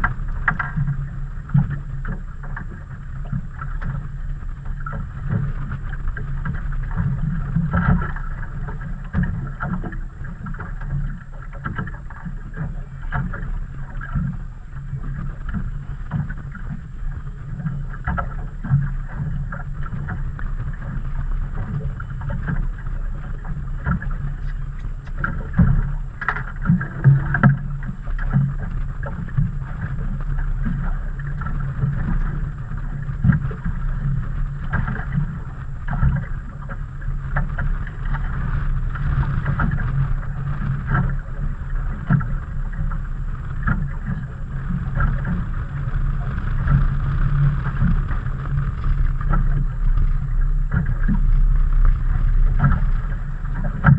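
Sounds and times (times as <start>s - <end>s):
wind and water rumble: 0.0s - 53.9s.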